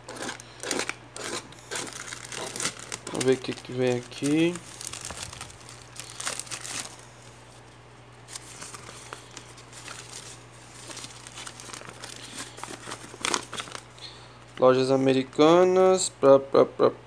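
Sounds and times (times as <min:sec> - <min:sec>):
plastic and paper crinkling: 0:00.1 - 0:14.7.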